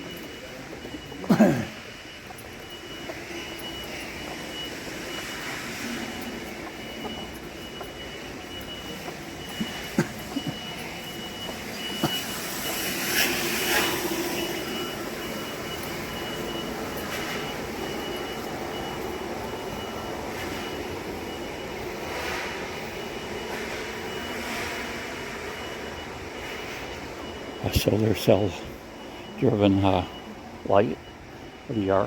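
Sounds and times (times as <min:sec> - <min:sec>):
store background noise: 0:00.0 - 0:32.0.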